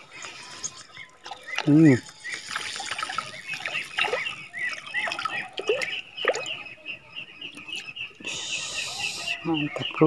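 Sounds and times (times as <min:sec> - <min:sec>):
birds chirping: 0:00.0 - 0:10.0
low falling bird calls: 0:00.0 - 0:10.0.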